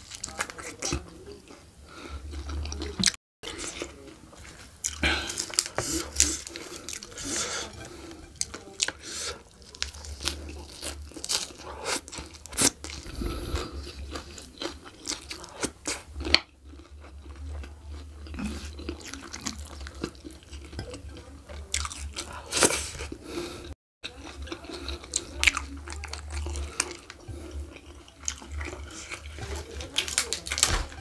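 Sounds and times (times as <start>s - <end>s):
food crunching: 0.0s - 31.0s
person chewing and biting food: 2.2s - 31.0s.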